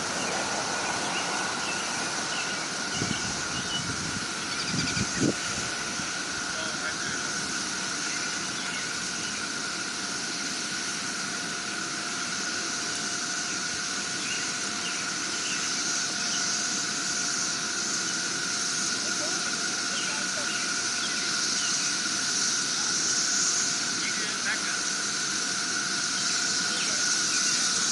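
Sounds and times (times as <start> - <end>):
cicada chorus: 0.0 - 27.9.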